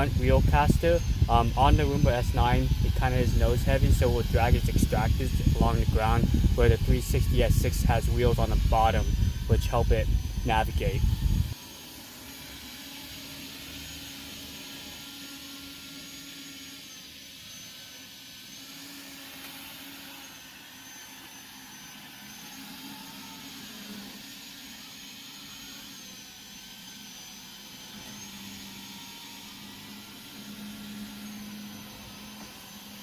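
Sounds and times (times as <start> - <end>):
robot vacuum running: 0.0 - 33.0.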